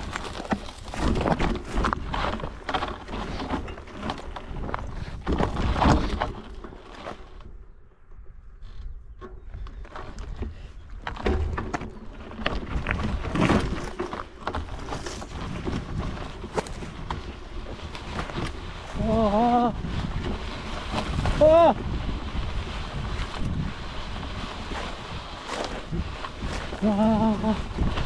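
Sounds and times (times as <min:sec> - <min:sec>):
tyres crunching over stones: 0:00.0 - 0:07.8, 0:09.4 - 0:28.0
bike clattering and rattling: 0:00.0 - 0:28.0.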